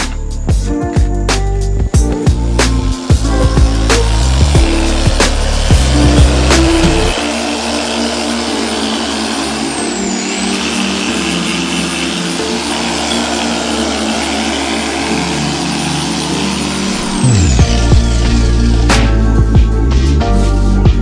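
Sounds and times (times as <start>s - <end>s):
electric polisher whining: 2.0s - 19.7s.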